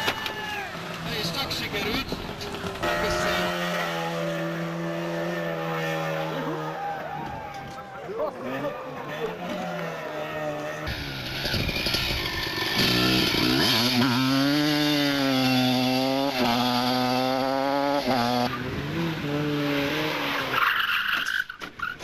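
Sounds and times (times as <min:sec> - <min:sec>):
tyre and road noise: 0:00.0 - 0:22.0
rally car engine revving: 0:00.7 - 0:07.1, 0:09.3 - 0:20.6.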